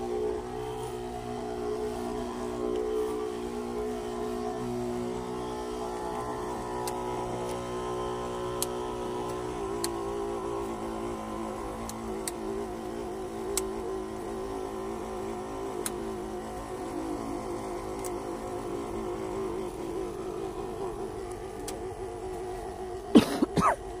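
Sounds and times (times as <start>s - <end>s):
electric pump humming: 0.0s - 24.0s.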